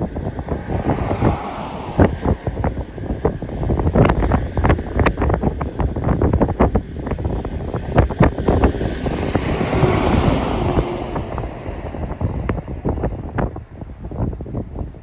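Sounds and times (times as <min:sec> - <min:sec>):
rapid thumps of gusts: 0:00.0 - 0:15.0
wind buffeting microphone: 0:00.0 - 0:15.0.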